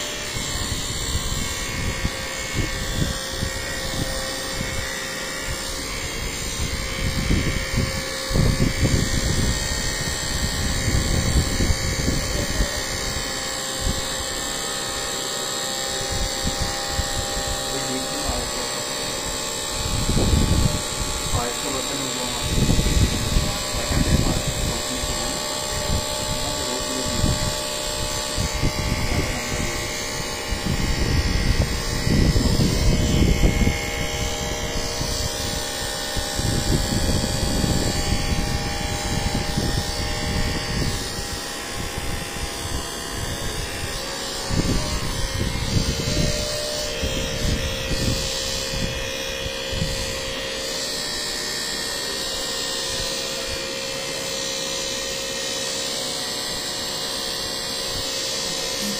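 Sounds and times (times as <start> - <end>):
electric massager buzzing: 0.0 - 58.9.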